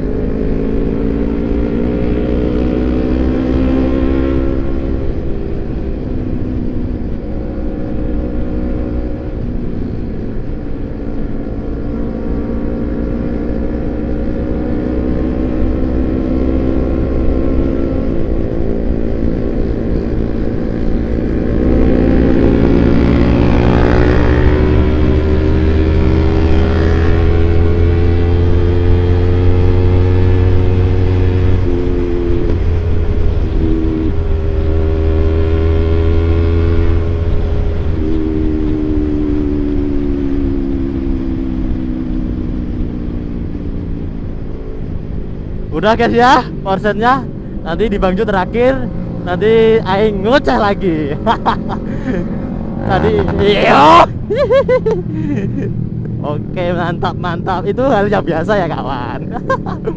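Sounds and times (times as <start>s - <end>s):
motorcycle engine revving while riding: 0.0s - 59.9s.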